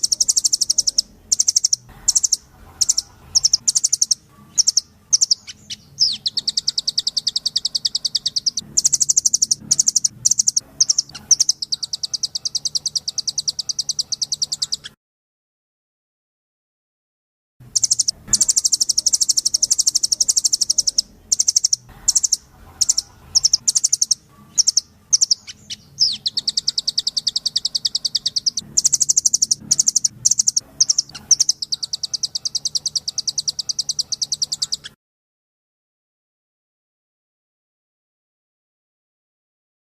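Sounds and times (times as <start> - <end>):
songbird trills and chattering: 0.0 - 15.0, 17.7 - 35.0.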